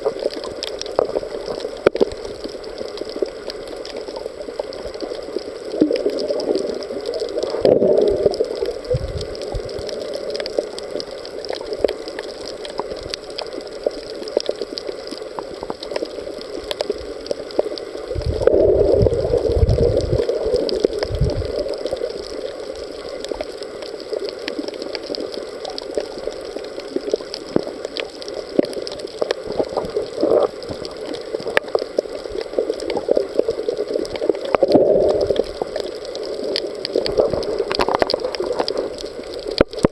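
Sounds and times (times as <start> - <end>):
low rushing water: 0.0 - 39.9
underwater hiss with crackling clicks: 0.0 - 39.9.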